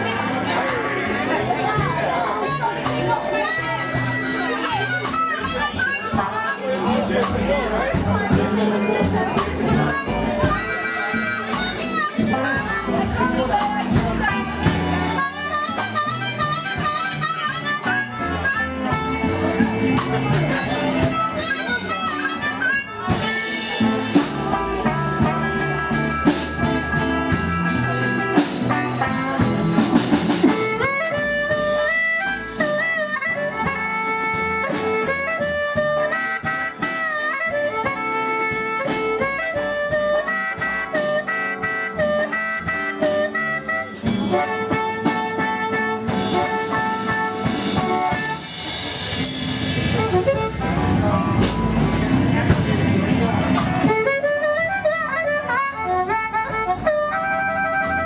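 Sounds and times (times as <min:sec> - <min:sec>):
busy drumming: 0:00.0 - 0:58.0
electric blues band: 0:00.0 - 0:58.0
harmonica bending notes: 0:00.0 - 0:58.0.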